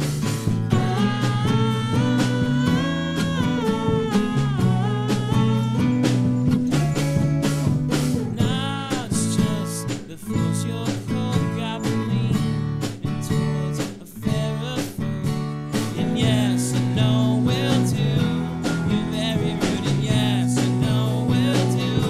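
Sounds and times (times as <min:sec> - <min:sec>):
electric guitar: 0:00.0 - 0:22.0
person singing: 0:00.0 - 0:22.0
steady drum beat: 0:00.0 - 0:22.0
strummed acoustic guitar: 0:00.0 - 0:22.0.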